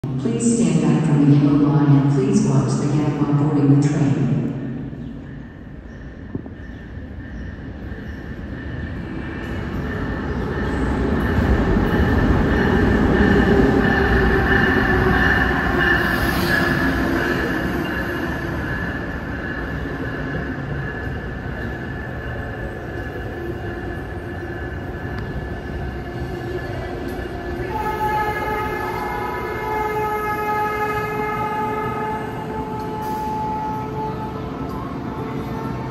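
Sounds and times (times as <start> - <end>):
train rumbling: 0.0 - 35.9.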